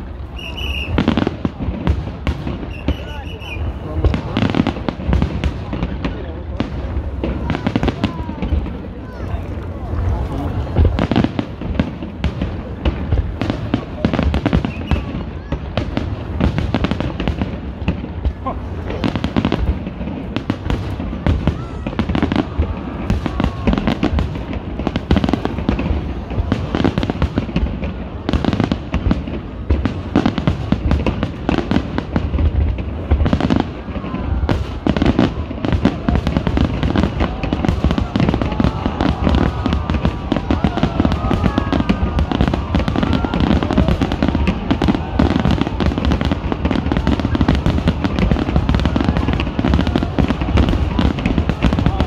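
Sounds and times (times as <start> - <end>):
fireworks booming and crackling: 0.0 - 52.0.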